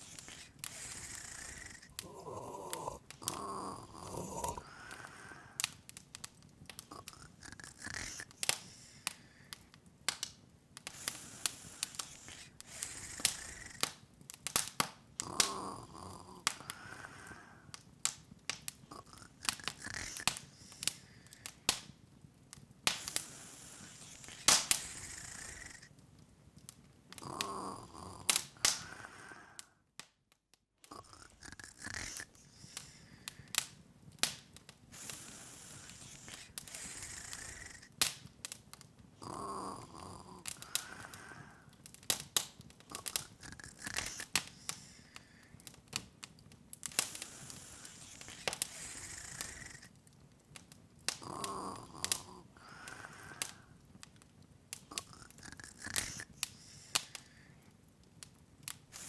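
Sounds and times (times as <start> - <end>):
soft fire hiss: 0.0 - 29.9, 30.9 - 59.0
wood fire crackling: 0.0 - 59.0.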